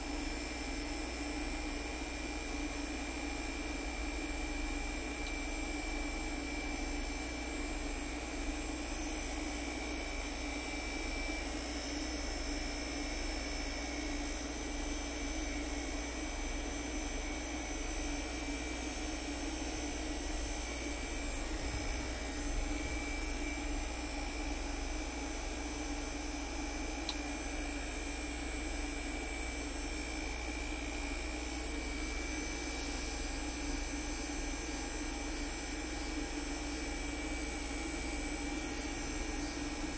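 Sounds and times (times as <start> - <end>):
air conditioner whirring hum: 0.0 - 39.9.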